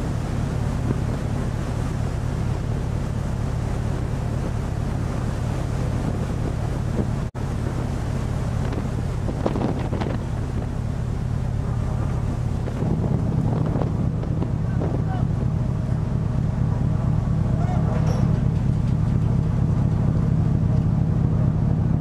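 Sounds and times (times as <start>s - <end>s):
boat engine humming: 0.0s - 22.0s
rush of heavy seas: 0.0s - 22.0s
wind buffeting microphone: 0.0s - 22.0s.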